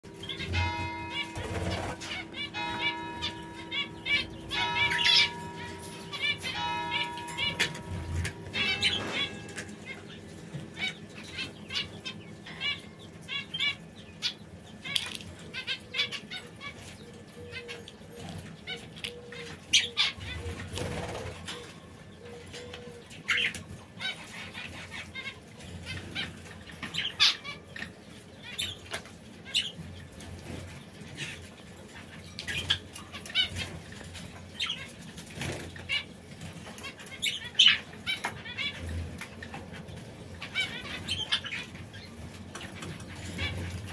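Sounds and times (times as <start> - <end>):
canaries chirping: 0.0 - 43.9.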